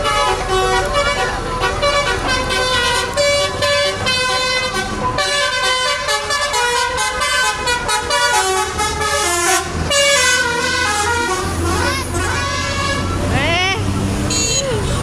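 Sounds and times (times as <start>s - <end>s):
bus engine rumble: 0.0s - 15.0s
multi-tone bus horn tune: 0.0s - 15.0s.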